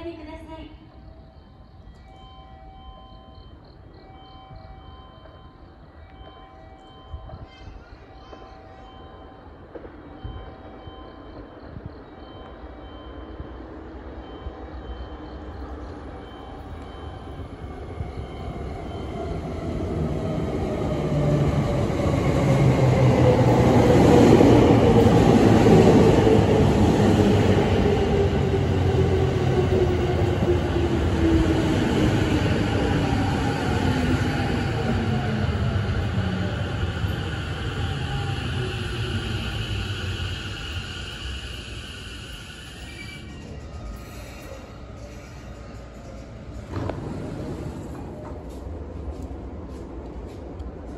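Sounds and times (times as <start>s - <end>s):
train wheel and rail noise: 0.0s - 50.9s.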